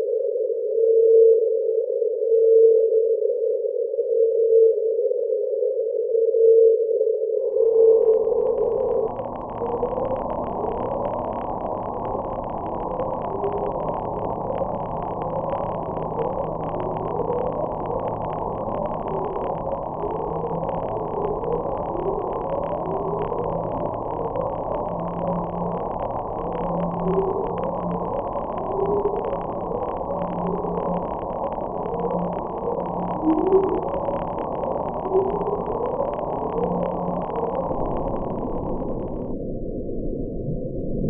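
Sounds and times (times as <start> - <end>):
faint crackle: 0.0 - 41.0
low hum: 7.5 - 41.0
steady tone: 7.5 - 41.0.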